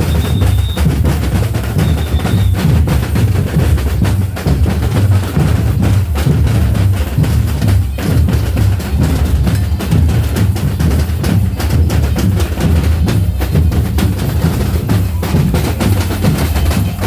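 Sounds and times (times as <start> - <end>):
deep bass drums: 0.0 - 17.0
rapid snare drum strokes: 0.0 - 17.0.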